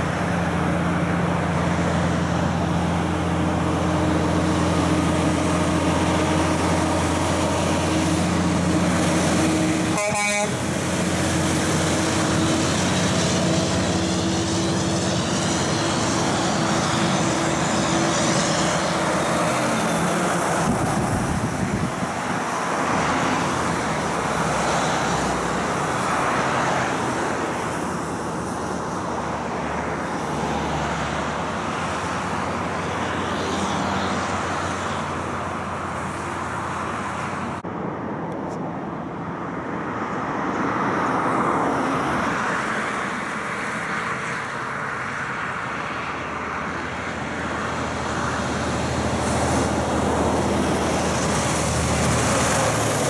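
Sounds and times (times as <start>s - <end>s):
heavy truck passing: 0.0s - 38.2s, 39.2s - 53.0s
highway traffic passing: 0.0s - 53.0s
truck on wet road: 0.0s - 53.0s.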